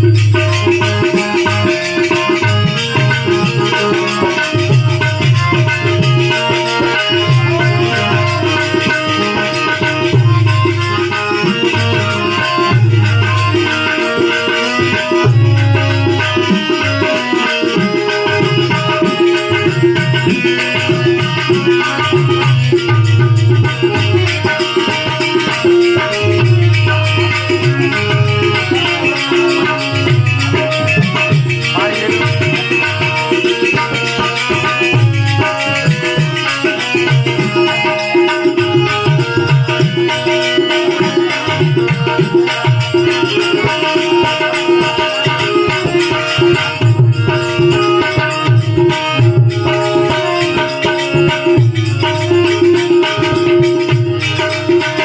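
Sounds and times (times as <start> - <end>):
tabla: 0.0 - 55.0.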